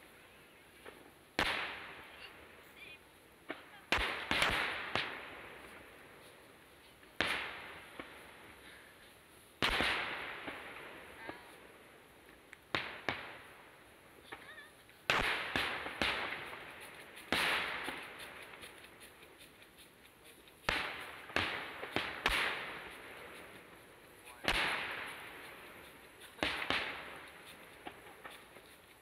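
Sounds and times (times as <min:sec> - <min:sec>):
firework shells bursting: 0:03.4 - 0:29.0.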